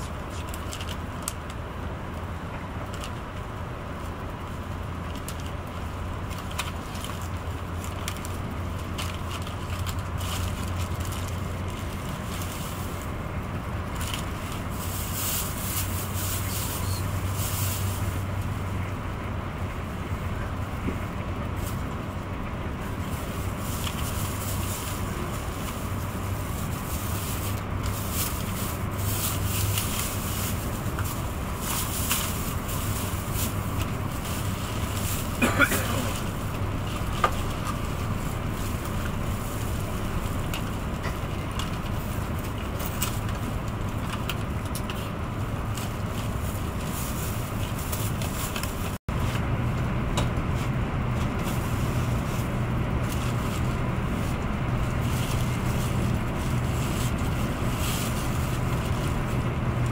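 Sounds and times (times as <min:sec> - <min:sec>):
rush of air and track noise: 0:00.0 - 0:59.9
train cabin hum and rumble: 0:00.0 - 0:59.9.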